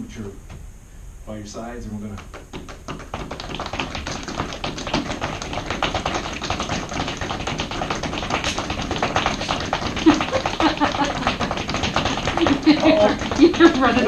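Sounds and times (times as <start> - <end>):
feet tapping on floor: 2.0 - 14.0.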